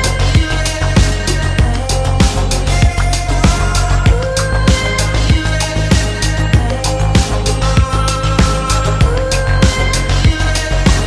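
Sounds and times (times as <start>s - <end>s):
electronic music: 0.0s - 11.0s
heavy bass: 0.0s - 11.0s
hi-hats: 0.0s - 11.0s
kick drum beat: 0.0s - 11.0s.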